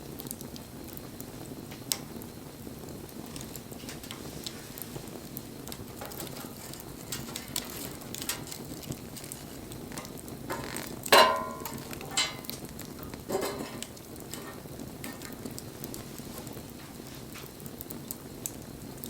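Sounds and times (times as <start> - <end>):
wood fire crackling and hissing: 0.0 - 19.0.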